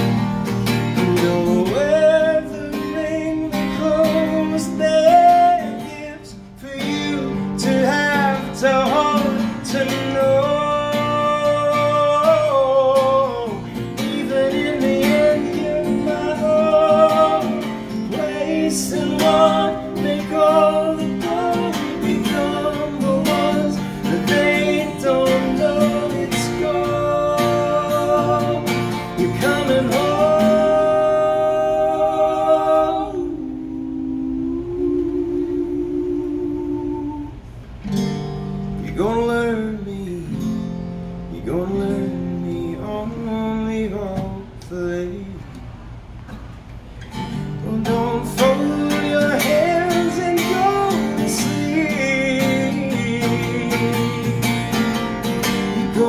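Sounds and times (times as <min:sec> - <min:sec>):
acoustic guitar: 0:00.0 - 0:56.0
man singing: 0:00.9 - 0:37.4, 0:38.8 - 0:40.5, 0:41.3 - 0:45.6, 0:47.6 - 0:56.0.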